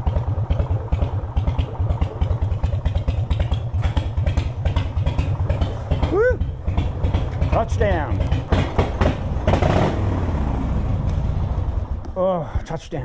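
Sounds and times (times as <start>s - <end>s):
motorcycle engine pulsing: 0.0s - 12.3s.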